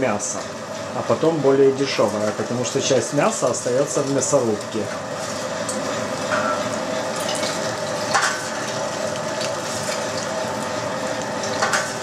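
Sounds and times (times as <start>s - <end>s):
electric meat grinder humming: 0.0s - 12.0s.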